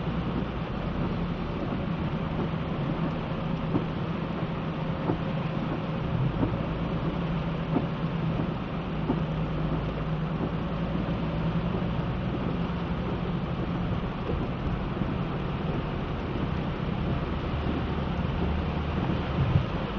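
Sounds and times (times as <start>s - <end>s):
heavy rain falling: 0.0s - 19.9s
faint ticks: 0.2s - 4.0s, 5.0s - 19.9s.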